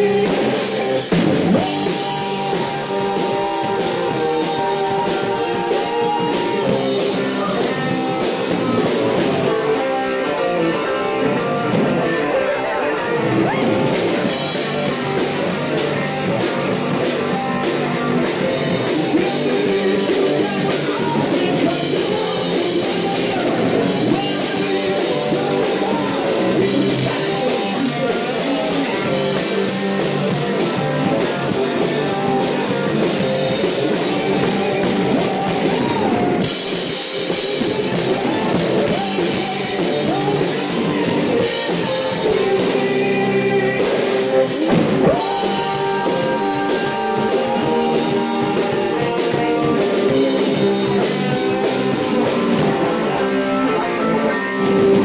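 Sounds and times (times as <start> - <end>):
drum kit: 0.0 - 55.0
electric guitars: 0.0 - 55.0
man singing lead vocal: 0.0 - 55.0.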